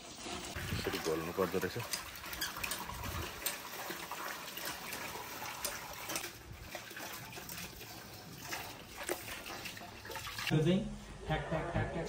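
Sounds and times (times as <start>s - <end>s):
slurry sloshing and splashing: 0.0s - 10.5s
hose water running: 0.0s - 10.6s.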